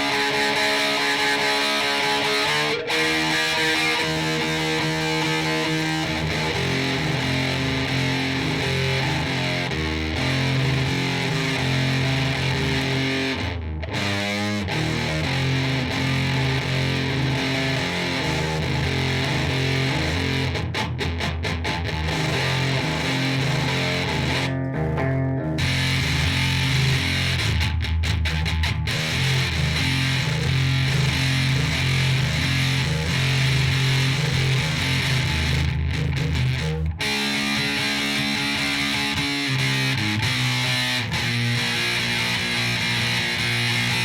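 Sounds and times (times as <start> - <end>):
electric guitar chords: 0.0 - 44.0.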